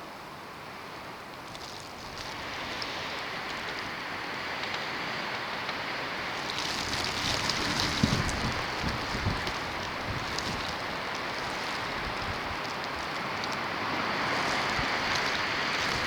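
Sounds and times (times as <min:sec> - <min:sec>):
gusts buffeting microphone: 0:01.5 - 0:16.0
snowstorm wind blowing: 0:01.5 - 0:16.0.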